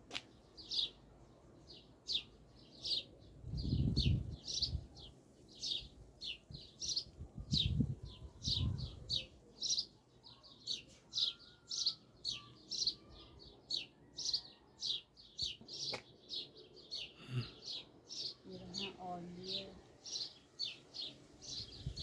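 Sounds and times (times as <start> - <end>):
bird chirping: 0.3 - 22.0.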